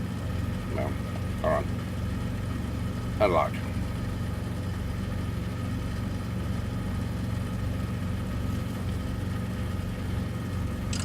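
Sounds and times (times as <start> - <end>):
diesel truck engine humming: 0.0 - 11.0.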